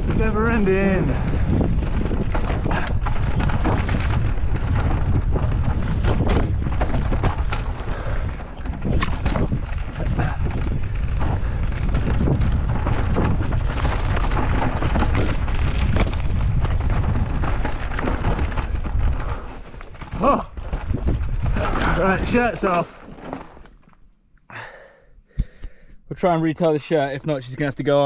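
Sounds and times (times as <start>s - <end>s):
wind buffeting microphone: 0.0s - 22.7s
bike knocks and rattles: 0.0s - 23.9s
tyre and trail rumble: 0.0s - 24.8s.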